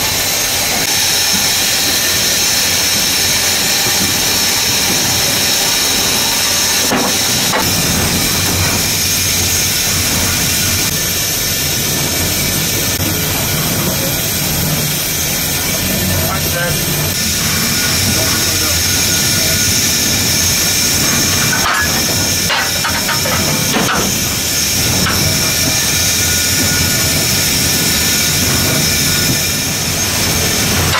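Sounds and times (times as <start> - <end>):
steam locomotive hissing: 0.0 - 30.9.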